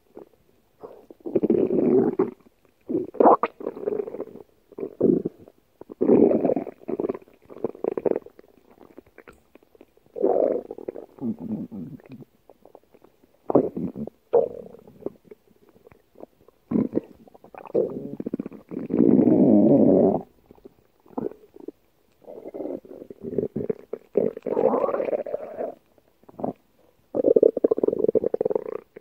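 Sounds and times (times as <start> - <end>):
stomach growling: 0.8 - 29.0.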